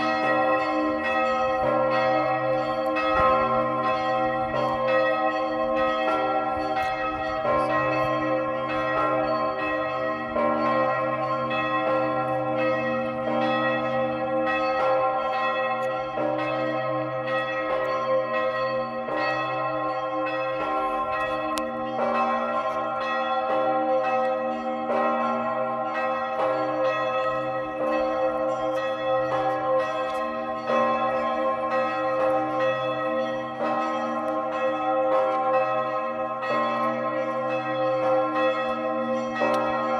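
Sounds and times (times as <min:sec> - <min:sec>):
large church bell pealing: 0:00.0 - 0:39.9.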